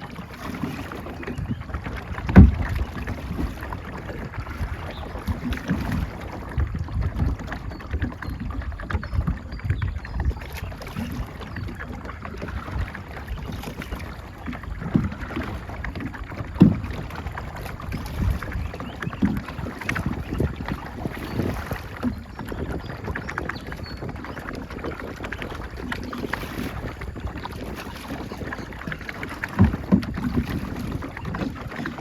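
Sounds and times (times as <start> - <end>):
water noise: 0.0 - 32.0
wind buffeting microphone: 0.0 - 32.0.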